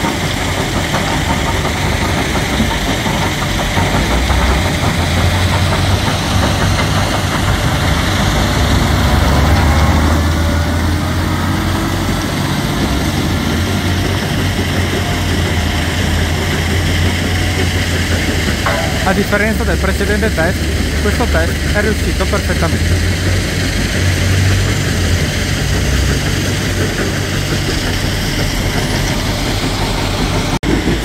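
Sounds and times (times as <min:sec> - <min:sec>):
diesel truck engine pulling hard: 0:00.0 - 0:31.0.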